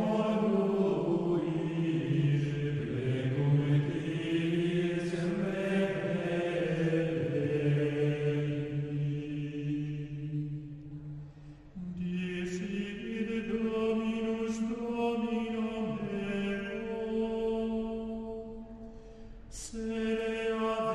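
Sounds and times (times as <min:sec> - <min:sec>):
chanted singing: 0:00.0 - 0:11.2, 0:11.8 - 0:18.7, 0:19.5 - 0:20.9.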